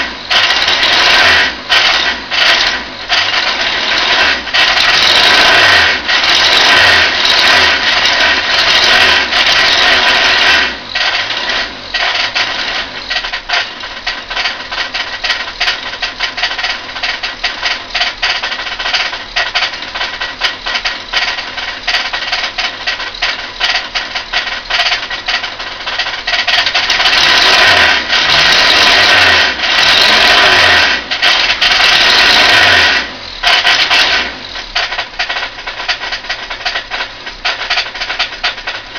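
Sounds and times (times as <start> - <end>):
car engine knocking: 0.0 - 38.9.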